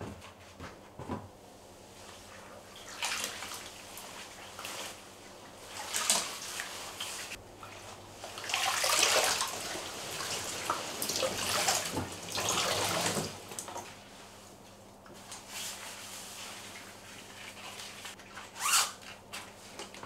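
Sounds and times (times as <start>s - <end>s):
water sloshing in a bathtub: 1.8s - 20.0s.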